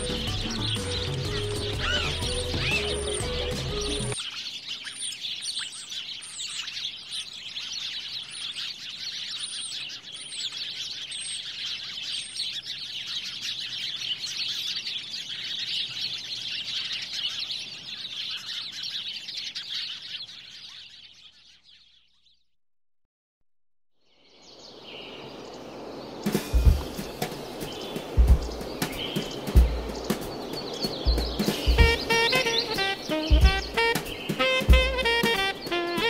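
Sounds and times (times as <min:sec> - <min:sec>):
chorus of small birds chirping: 0:00.0 - 0:22.4, 0:24.2 - 0:36.0.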